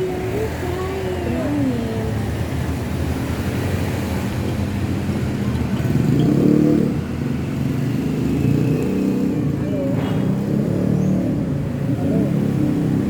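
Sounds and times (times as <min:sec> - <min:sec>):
vehicle passing close by: 0:01.6 - 0:13.0.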